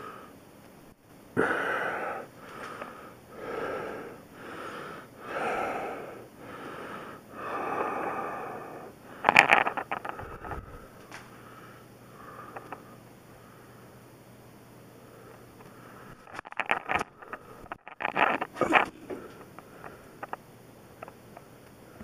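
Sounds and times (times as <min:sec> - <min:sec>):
man breathing heavily: 0:00.0 - 0:00.4, 0:01.4 - 0:14.0, 0:15.0 - 0:20.4.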